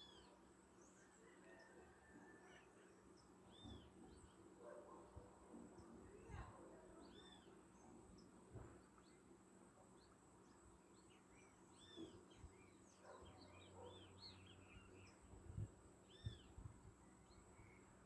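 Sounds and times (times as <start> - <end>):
small birds chirping: 2.5 - 18.0.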